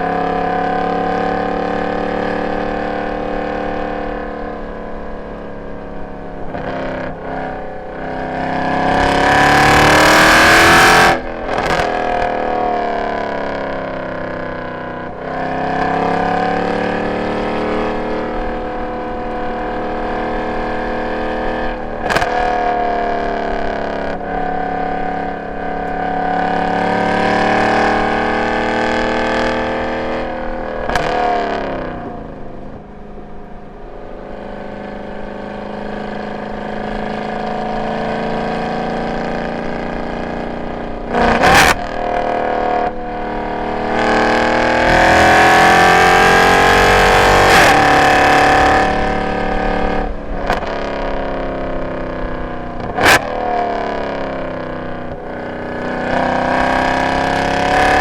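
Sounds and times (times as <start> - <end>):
car engine exhaust revving: 0.0 - 58.0.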